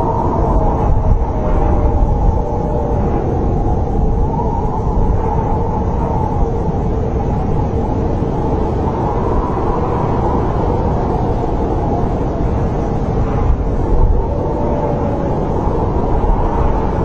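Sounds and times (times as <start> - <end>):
wind rushing: 0.0 - 17.0.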